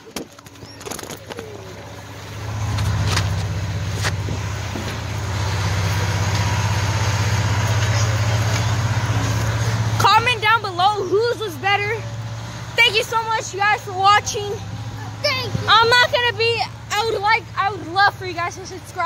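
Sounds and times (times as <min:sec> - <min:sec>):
low motor rumble: 0:00.0 - 0:19.0.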